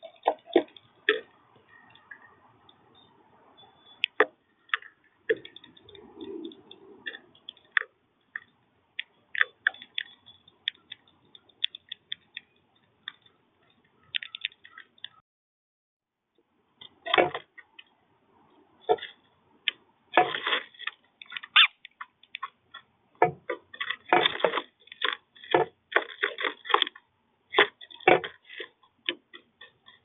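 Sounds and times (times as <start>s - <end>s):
birds pecking seeds: 0.0s - 15.2s, 16.4s - 30.0s.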